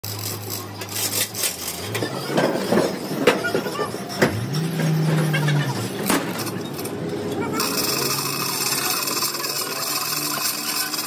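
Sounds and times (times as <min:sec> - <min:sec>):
machine humming: 0:01.4 - 0:11.0.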